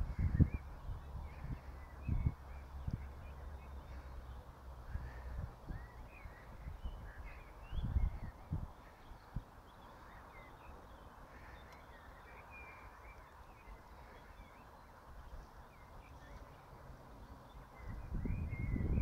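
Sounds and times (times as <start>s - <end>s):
faint bird chirps: 0.0s - 19.0s
low outdoor rumble: 0.0s - 19.0s.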